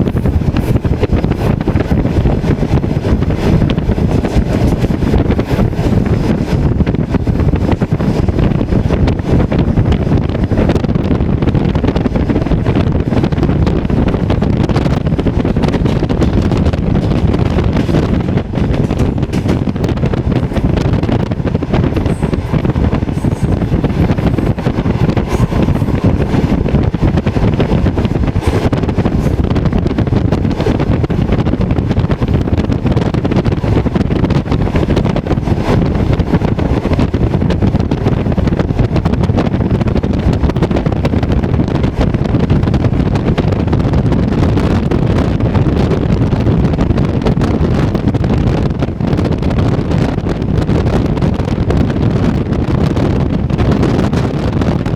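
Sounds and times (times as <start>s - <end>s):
train carriage rumble: 0.0s - 54.9s
wind buffeting microphone: 0.0s - 54.9s.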